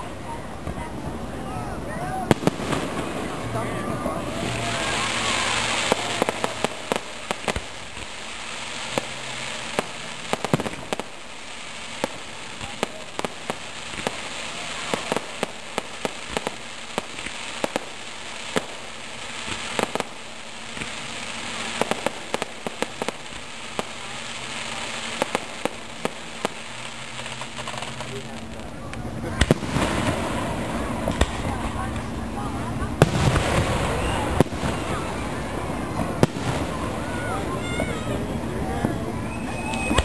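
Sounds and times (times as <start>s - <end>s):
fireworks popping and banging: 0.0s - 1.2s, 2.2s - 40.0s
hissing crackle of fireworks: 0.0s - 40.0s.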